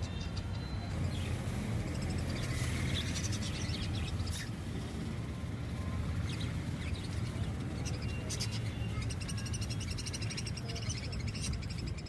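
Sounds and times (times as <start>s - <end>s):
cage birds chirping: 0.0s - 12.0s.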